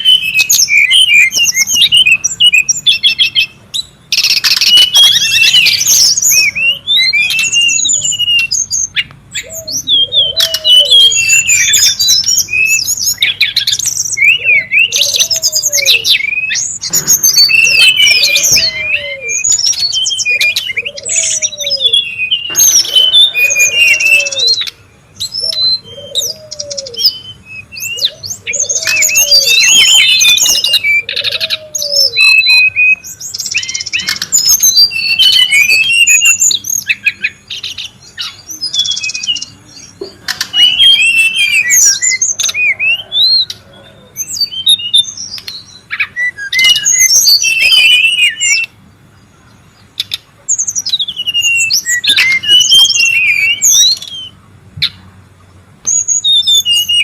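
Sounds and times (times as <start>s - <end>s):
bird song with chirps and whistles: 0.0s - 57.0s.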